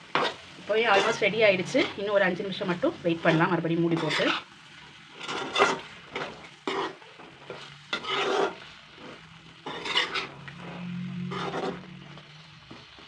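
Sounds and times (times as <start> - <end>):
spatula scraping a pan: 0.0 - 2.1, 3.1 - 13.0
oil sizzling: 0.0 - 13.0.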